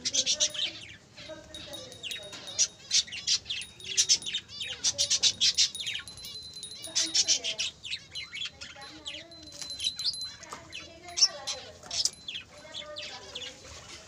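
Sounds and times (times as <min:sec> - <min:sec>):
budgerigars chattering and warbling: 0:00.0 - 0:10.2, 0:10.8 - 0:14.0.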